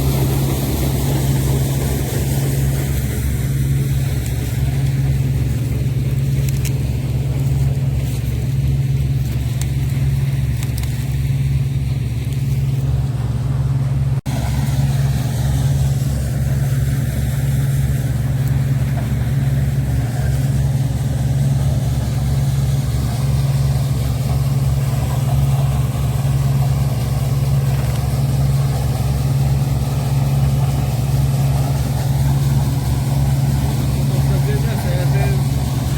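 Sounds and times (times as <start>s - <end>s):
combine harvester engine drone: 0.0s - 35.9s.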